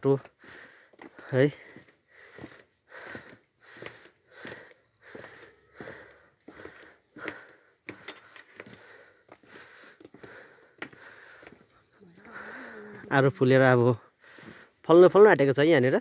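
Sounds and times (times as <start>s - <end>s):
footsteps on path: 0.0s - 15.1s.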